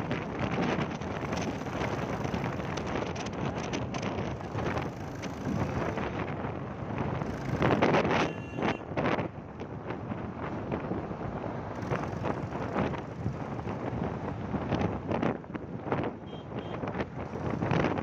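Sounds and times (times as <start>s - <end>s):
road and traffic noise: 0.0s - 18.0s
wind rushing over microphone: 0.0s - 18.0s.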